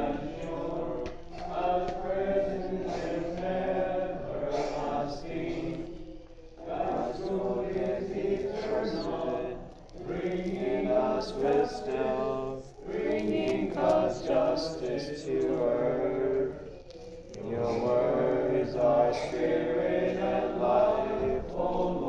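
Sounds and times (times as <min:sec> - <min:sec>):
voices singing slow melody: 0:00.0 - 0:22.0.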